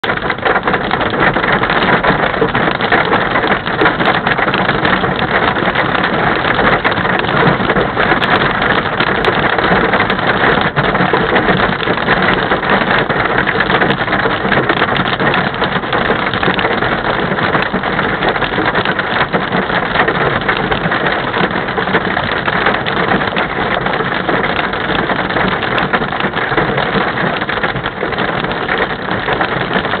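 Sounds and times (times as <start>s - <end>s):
hail and rain on vehicle roof: 0.0s - 30.0s.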